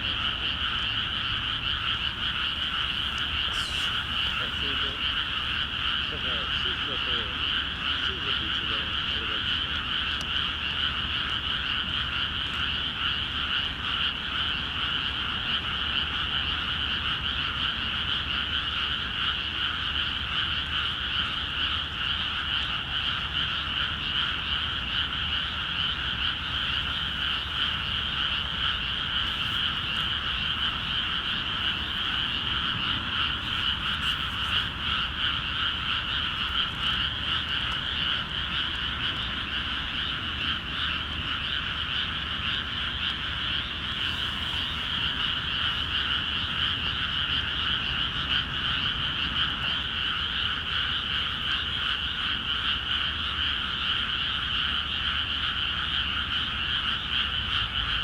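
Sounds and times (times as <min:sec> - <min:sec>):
chorus of frogs calling: 0:00.0 - 0:58.0.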